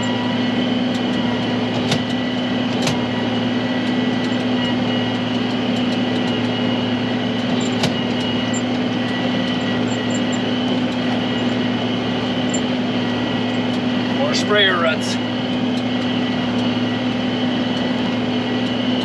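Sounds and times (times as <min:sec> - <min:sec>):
tractor and baler running: 0:00.0 - 0:19.0.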